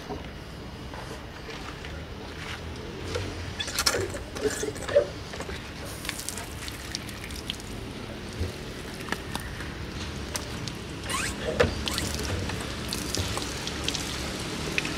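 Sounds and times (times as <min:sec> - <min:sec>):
outdoor background noise: 0:00.0 - 0:14.9.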